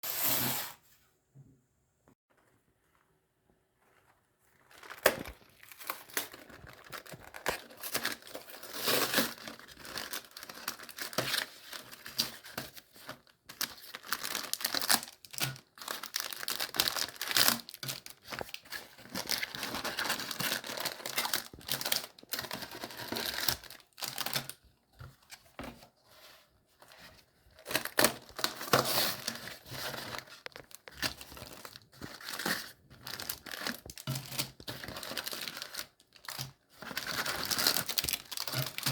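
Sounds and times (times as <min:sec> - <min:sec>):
plastic packaging crinkling: 0:03.8 - 0:24.6, 0:26.9 - 0:38.9.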